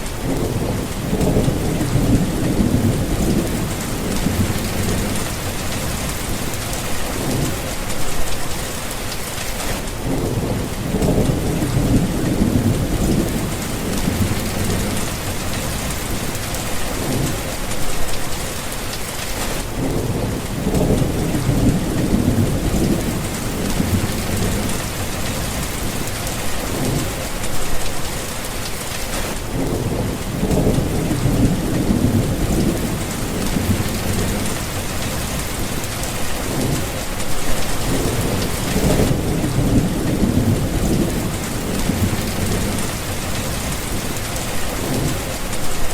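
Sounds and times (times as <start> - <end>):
rolling thunder: 0.0 - 8.3, 10.0 - 18.0, 19.6 - 27.4, 29.3 - 45.9
steady rain: 0.0 - 45.9.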